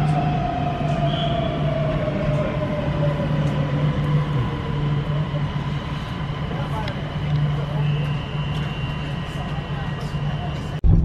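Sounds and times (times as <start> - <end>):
train rail rumble and hum: 0.0 - 11.0.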